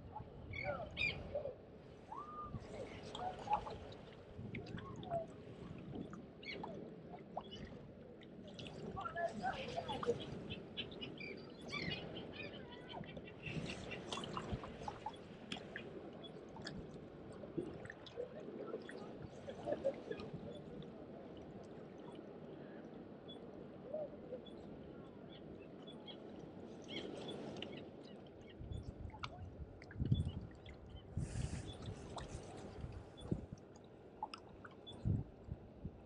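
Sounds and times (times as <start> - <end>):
small waves lapping: 0.0 - 36.0.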